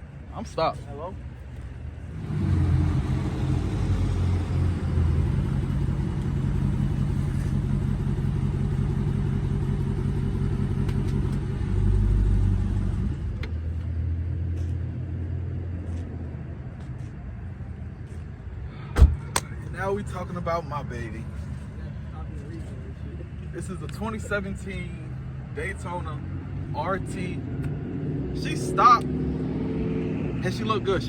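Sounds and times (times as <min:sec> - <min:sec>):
car engine deep rumble: 0:00.0 - 0:31.0.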